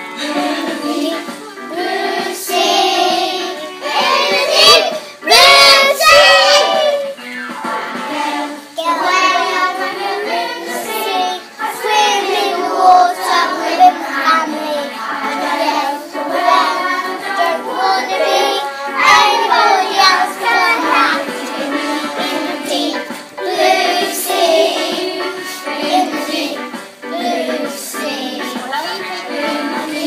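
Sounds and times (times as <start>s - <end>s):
children singing together: 0.0s - 30.0s.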